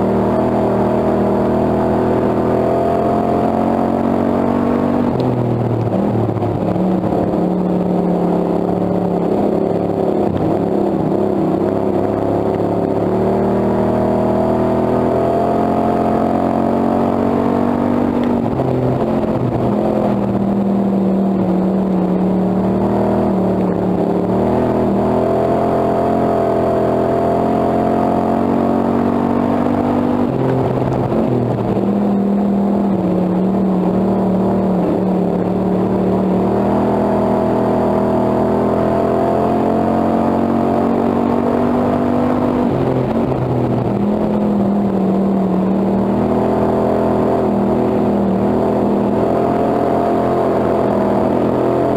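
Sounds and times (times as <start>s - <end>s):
race car engine running hard: 0.0s - 51.9s.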